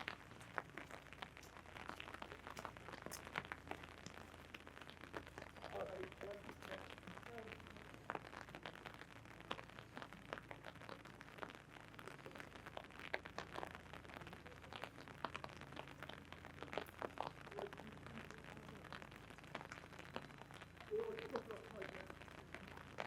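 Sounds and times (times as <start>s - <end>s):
raindrops tapping on umbrella: 0.0s - 23.0s.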